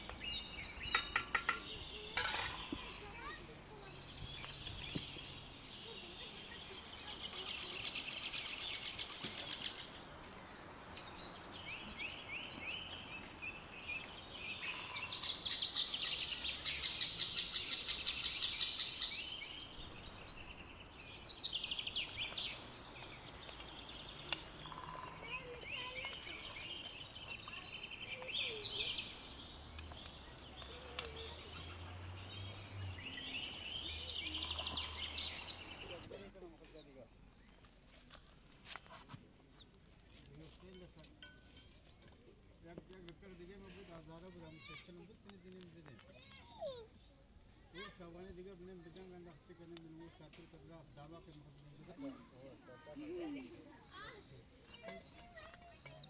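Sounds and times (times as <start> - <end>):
songbirds chirping trills: 0.0 - 56.0.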